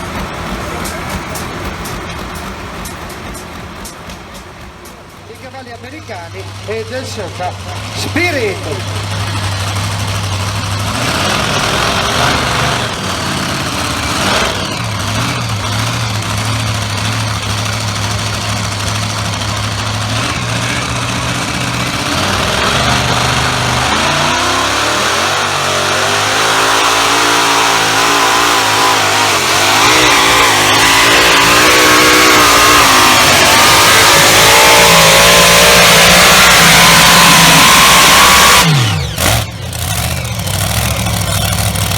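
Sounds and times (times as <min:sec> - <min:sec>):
tractor engine revving: 0:00.0 - 0:41.9.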